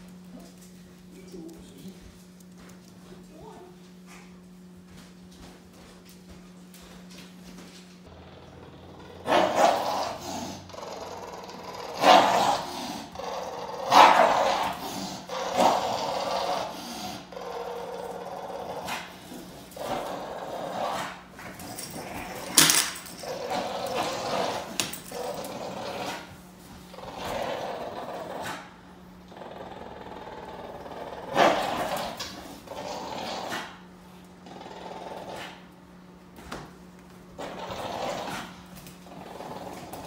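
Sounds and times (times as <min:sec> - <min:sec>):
dog play growling: 0:04.0 - 0:40.0.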